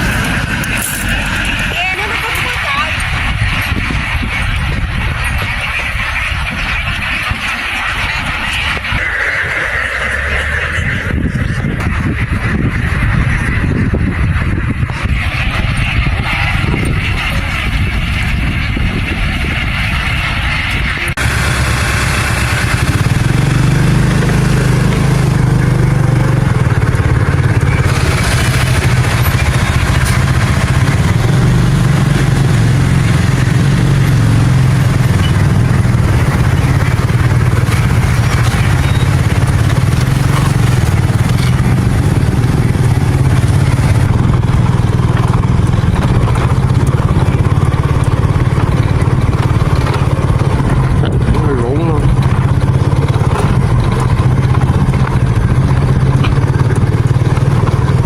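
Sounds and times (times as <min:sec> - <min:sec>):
vehicle engine droning under load: 0:00.0 - 0:58.0.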